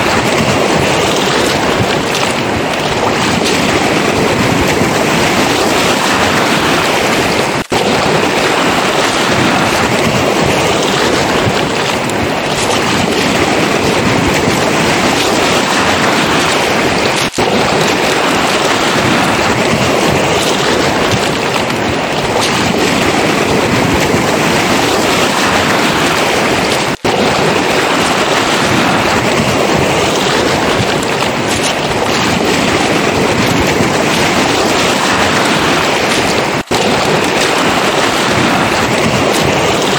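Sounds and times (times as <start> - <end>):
sea surf washing onto pebbles: 0.0 - 39.9.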